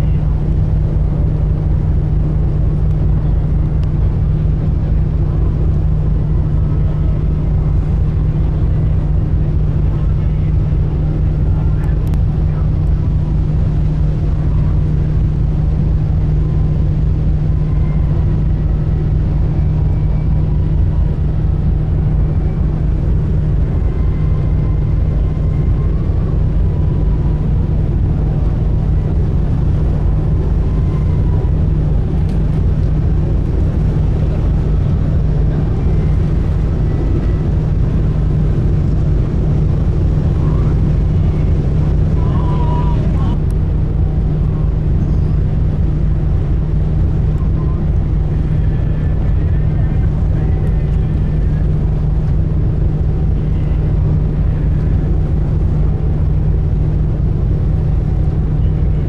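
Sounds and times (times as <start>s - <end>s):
ship engines droning: 0.0s - 59.0s.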